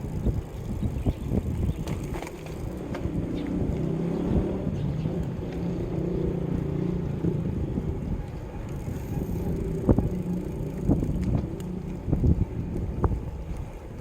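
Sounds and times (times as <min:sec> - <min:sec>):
bicycle rolling rumble: 0:00.0 - 0:14.0
wind on microphone: 0:00.0 - 0:14.0.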